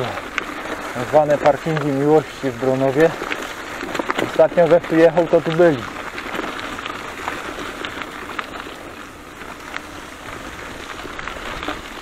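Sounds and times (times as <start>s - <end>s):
bicycle tyres on wet gravel: 0.0s - 12.0s
small clicks and rattles: 0.0s - 12.0s.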